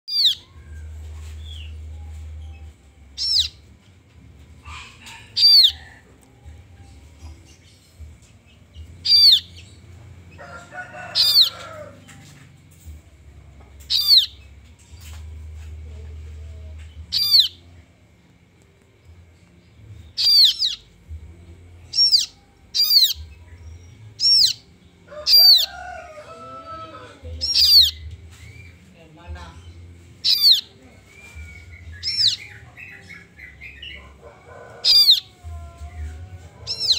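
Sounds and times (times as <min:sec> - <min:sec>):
nestlings chirping: 0:00.1 - 0:03.8, 0:04.4 - 0:06.3, 0:07.0 - 0:11.9, 0:13.8 - 0:14.7, 0:16.4 - 0:17.8, 0:19.4 - 0:36.9.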